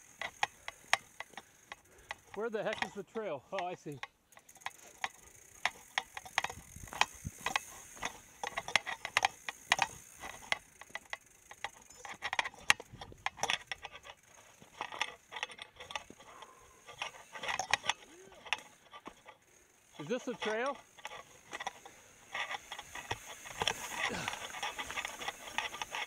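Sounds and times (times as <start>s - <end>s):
bike clicking and rattling: 0.0s - 26.0s
bike rear hub ratcheting: 0.0s - 26.0s.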